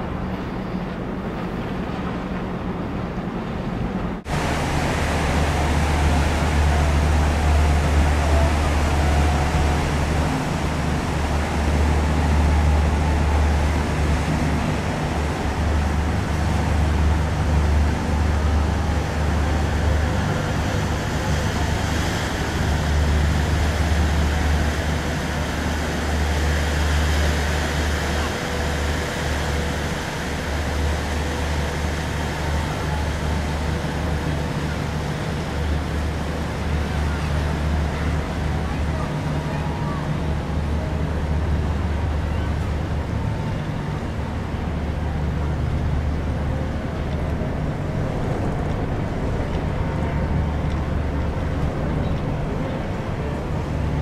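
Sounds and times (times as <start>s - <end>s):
ship running rumble: 0.0s - 54.0s
wind and water hiss: 0.0s - 54.0s.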